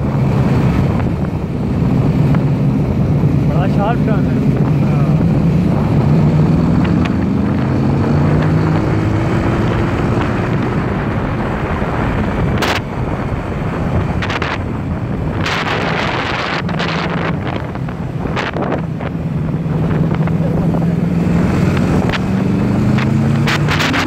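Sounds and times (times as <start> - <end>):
motorcycle engine accelerating: 0.0 - 24.0
wind buffeting microphone: 0.0 - 24.0.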